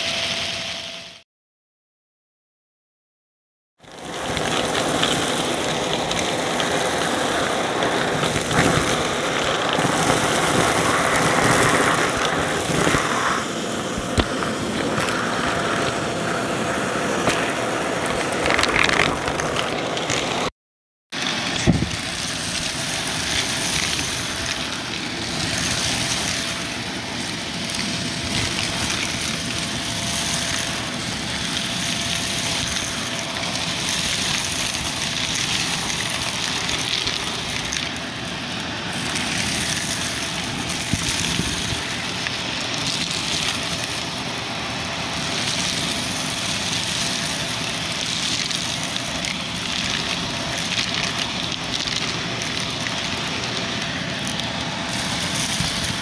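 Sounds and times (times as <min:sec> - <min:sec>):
debris rattling in vacuum: 0:03.8 - 0:20.5, 0:21.2 - 0:56.0
upright vacuum running: 0:03.8 - 0:20.5, 0:21.2 - 0:56.0.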